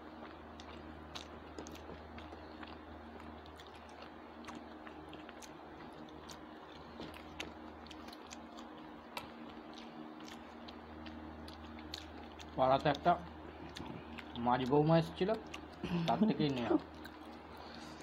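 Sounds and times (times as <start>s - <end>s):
faint low hum: 0.0s - 18.0s
chewing and wet mouth clicks: 0.2s - 17.9s.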